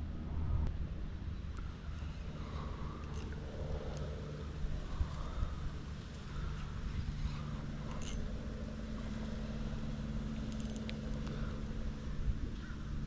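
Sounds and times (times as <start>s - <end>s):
boat motor running: 1.2s - 13.0s.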